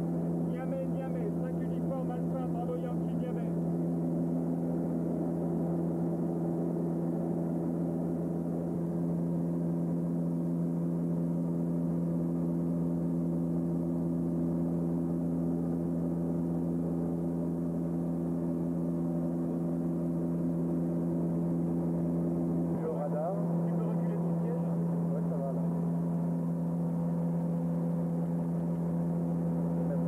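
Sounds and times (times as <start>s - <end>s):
turboprop engines droning in cabin: 0.0s - 30.0s.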